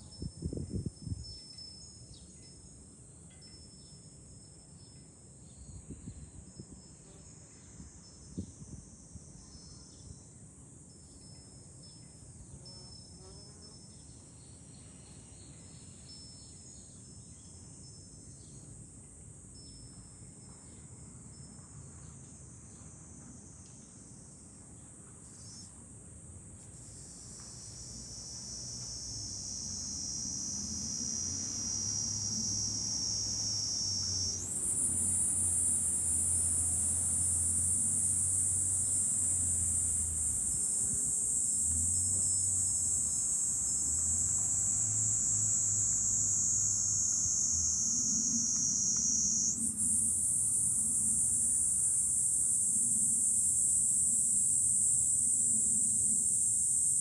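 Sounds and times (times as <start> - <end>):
cicadas chorus: 0.0 - 20.4, 25.2 - 25.7, 26.6 - 57.0.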